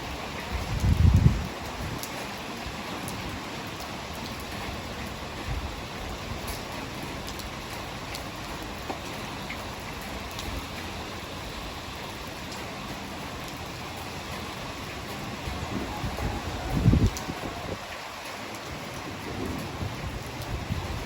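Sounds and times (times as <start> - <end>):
heavy rain falling: 0.0 - 21.0
raindrop ticks: 0.3 - 21.0.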